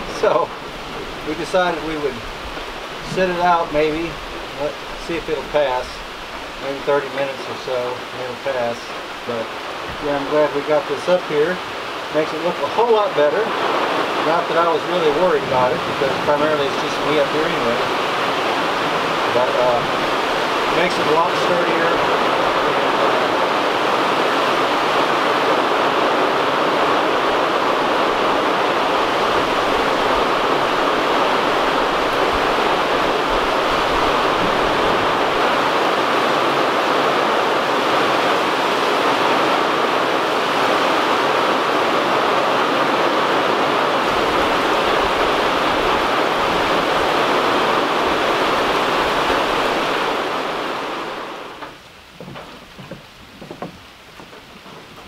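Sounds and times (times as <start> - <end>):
heavy rain pouring: 0.0 - 55.0
water streaming off roof edge: 0.0 - 55.0.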